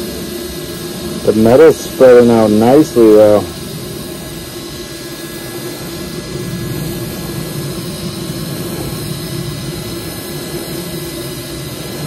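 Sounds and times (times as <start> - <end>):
welding arc buzzing hiss: 0.0 - 12.0.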